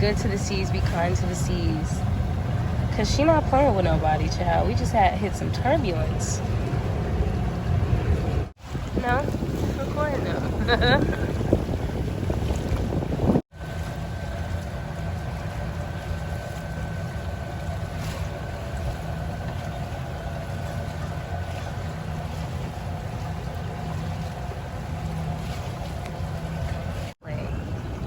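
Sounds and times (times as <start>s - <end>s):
engine whine: 0.0s - 28.0s
motorboat engine running: 0.0s - 28.0s.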